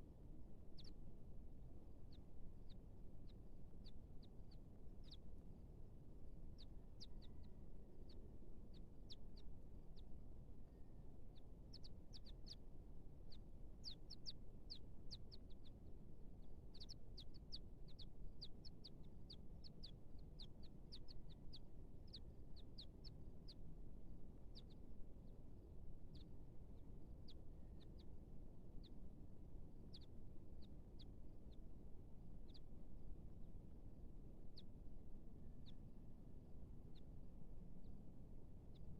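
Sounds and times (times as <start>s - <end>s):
baby birds peeping: 0.4s - 38.9s.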